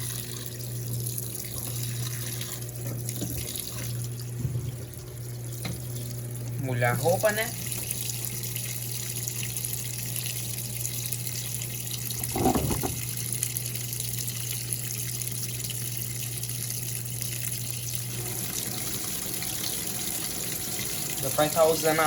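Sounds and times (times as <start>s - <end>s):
tap water running into tub: 0.0s - 22.0s.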